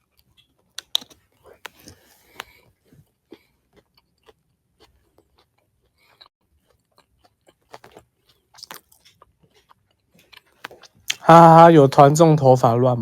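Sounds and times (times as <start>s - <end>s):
faint clicks and mouth noises: 0.0s - 11.3s.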